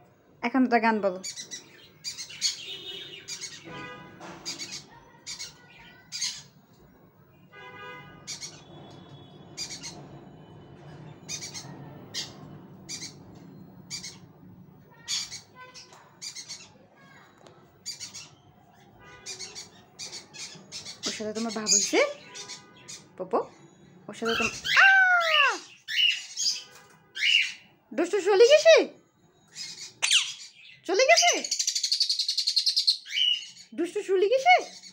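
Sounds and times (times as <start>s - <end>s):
parrots squawking and chirping: 1.2s - 34.9s.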